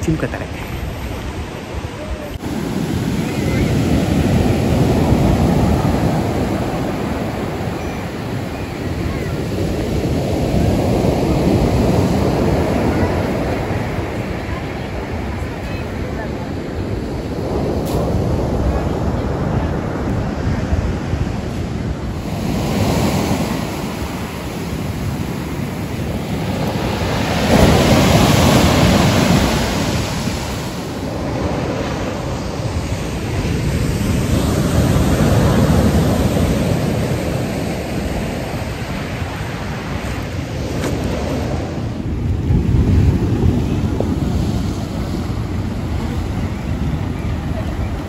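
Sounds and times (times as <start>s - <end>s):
wind buffeting microphone: 0.0s - 48.0s
waves breaking on pebble beach: 2.4s - 48.0s.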